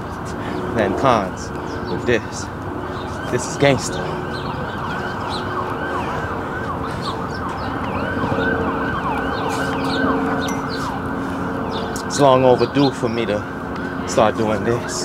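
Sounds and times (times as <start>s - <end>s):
city noise: 0.0s - 15.0s
emergency siren sweeping up and down: 0.0s - 15.0s.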